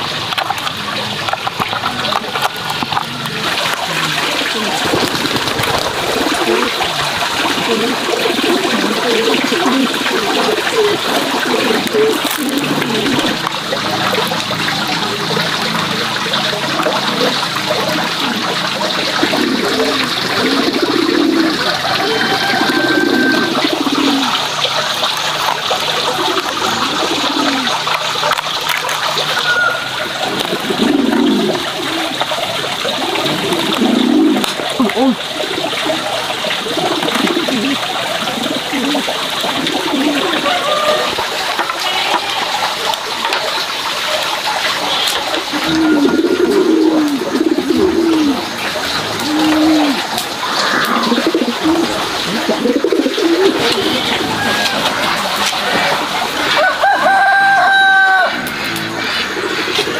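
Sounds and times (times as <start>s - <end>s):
running water splashing: 0.0s - 59.9s.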